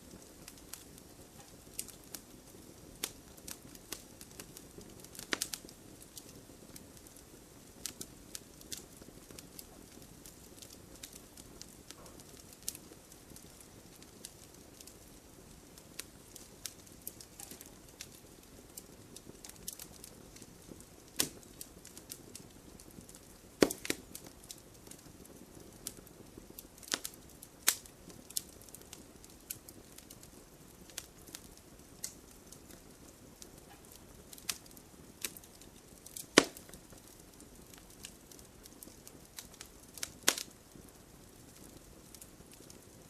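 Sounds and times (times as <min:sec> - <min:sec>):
soft steady hiss: 0:00.0 - 0:43.0
wood fire crackling: 0:00.0 - 0:43.0.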